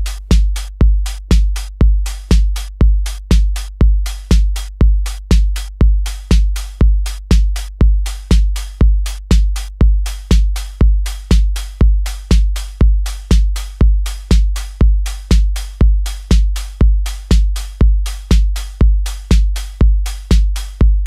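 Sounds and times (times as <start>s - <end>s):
electronic kick drum: 0.0s - 21.0s
hi-hat hits: 0.0s - 21.0s.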